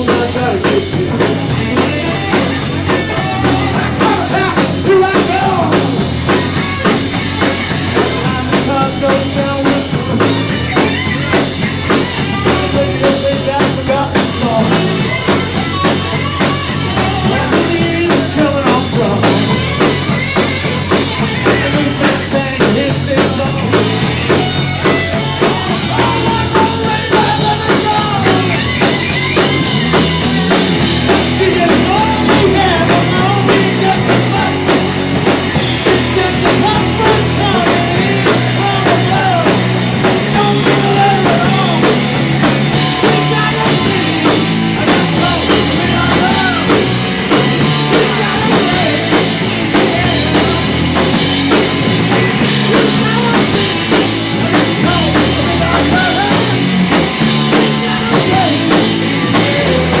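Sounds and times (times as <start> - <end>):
bending lead guitar line: 0.0 - 60.0
drum kit steady beat: 0.0 - 60.0
electric guitar and bass: 0.0 - 60.0.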